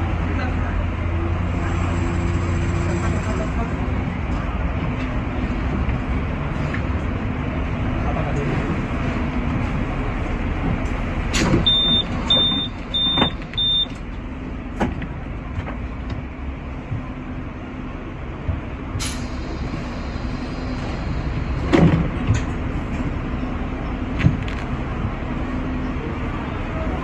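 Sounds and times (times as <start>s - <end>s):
tram humming and rumbling: 0.0s - 27.0s.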